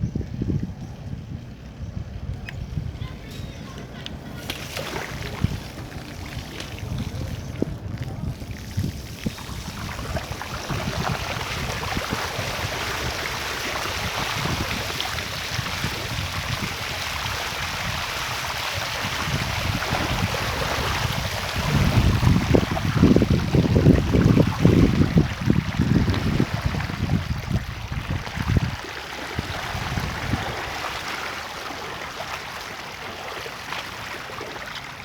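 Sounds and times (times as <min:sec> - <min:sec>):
wind buffeting microphone: 0:00.0 - 0:31.1
floodwater rushing: 0:03.7 - 0:35.0.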